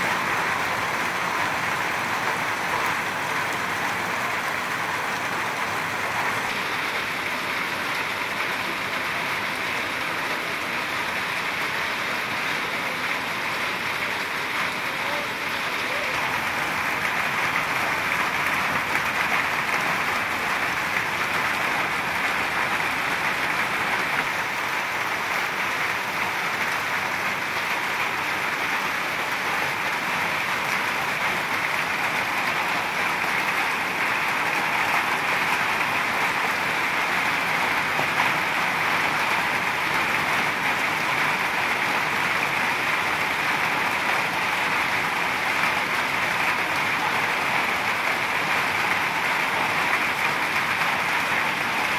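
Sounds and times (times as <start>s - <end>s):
rain on tent fabric: 0.0s - 51.9s
rainwater running off: 0.0s - 51.9s.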